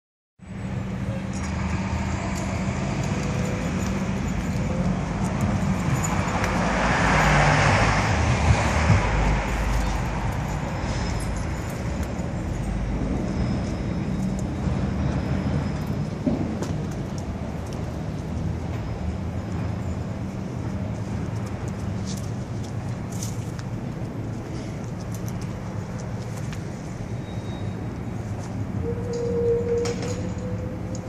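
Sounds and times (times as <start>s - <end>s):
car engine rumbling: 0.4s - 28.9s
street traffic noise: 0.4s - 31.0s.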